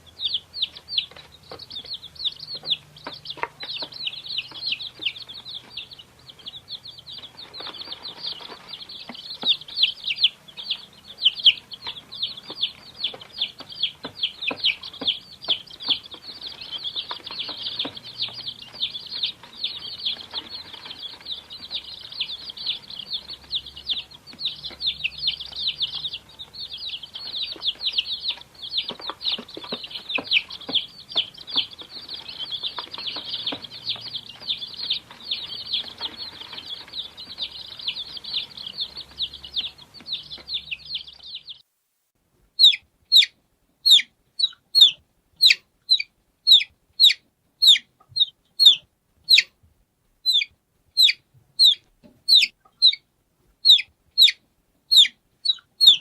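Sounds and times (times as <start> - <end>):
baby chicks peeping: 0.0 - 41.7, 42.5 - 56.0.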